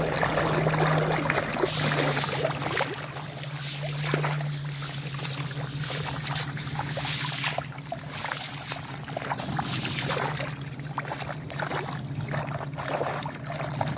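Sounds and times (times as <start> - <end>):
steady low hum: 0.0 - 13.9
water splashing and swirling: 0.0 - 13.9.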